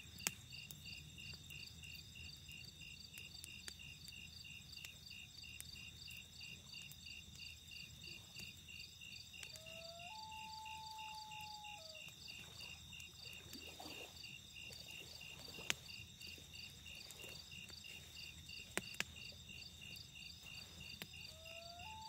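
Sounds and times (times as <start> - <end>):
campfire popping: 0.0 - 9.7, 10.8 - 22.0
crickets chirping: 0.0 - 22.0.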